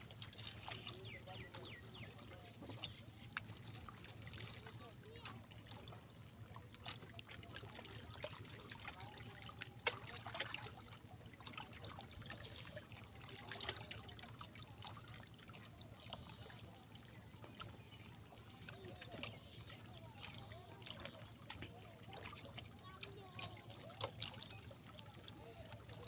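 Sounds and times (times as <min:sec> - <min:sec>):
water lapping against concrete: 0:00.0 - 0:26.0.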